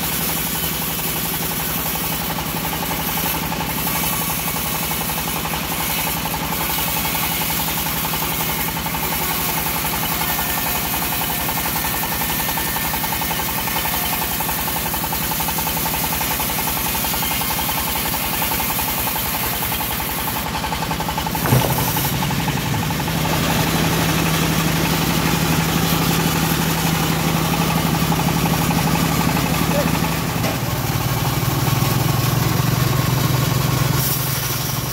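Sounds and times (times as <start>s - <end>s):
bandsaw mill sawing log: 0.0s - 34.9s.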